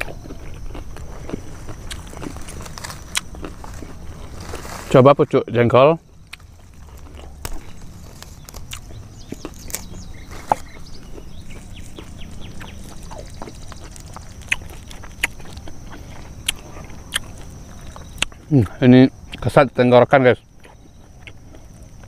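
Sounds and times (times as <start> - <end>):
crisp chewing crunches: 0.0 - 19.6, 20.5 - 22.0
insect chirps: 0.0 - 22.0
insect drone: 0.0 - 22.0.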